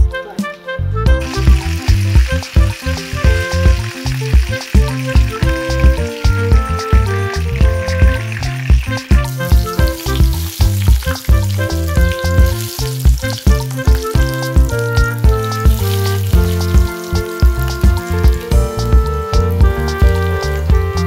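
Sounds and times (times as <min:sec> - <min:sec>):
background music with steady beat: 0:00.0 - 0:21.0
oil sizzling in a frying pan: 0:01.2 - 0:19.6.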